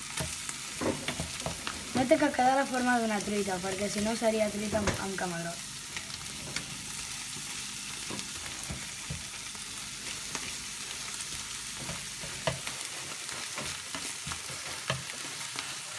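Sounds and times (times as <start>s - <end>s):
eggs sizzling in frying pan: 0.0s - 15.9s.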